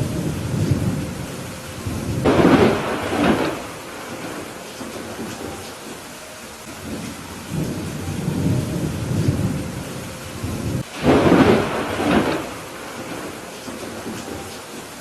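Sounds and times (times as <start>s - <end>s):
sharp thunderclap: 0.0s - 5.6s, 6.8s - 15.0s
rain hissing: 0.0s - 15.0s
thunder rumbling: 0.0s - 15.0s.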